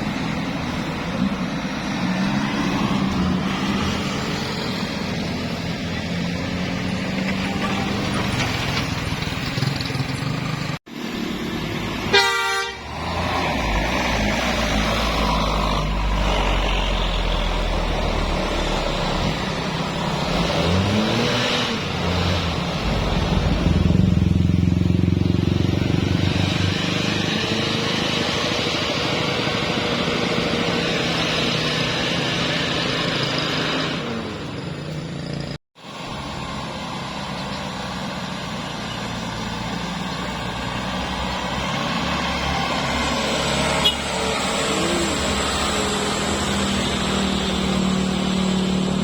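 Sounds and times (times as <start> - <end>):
motorcycle and vehicle engines passing: 0.0 - 49.0.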